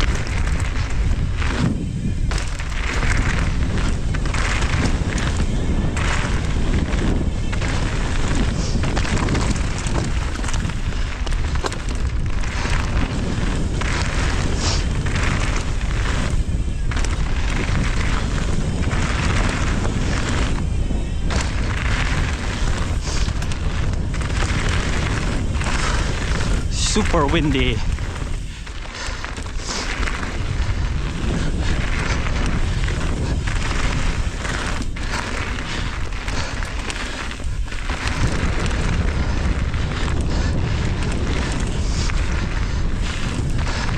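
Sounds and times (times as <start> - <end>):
strong wind buffeting microphone: 0.0 - 43.9
tyres rolling over dirt: 0.0 - 43.9.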